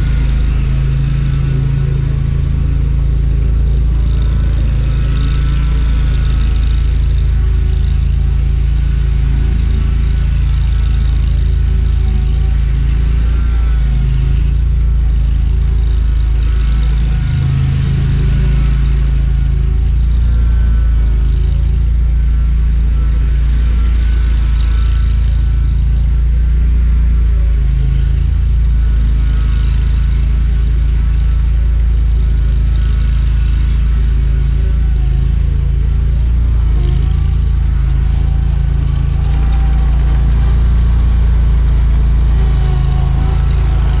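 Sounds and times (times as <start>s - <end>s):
mower engine running: 0.0s - 44.0s.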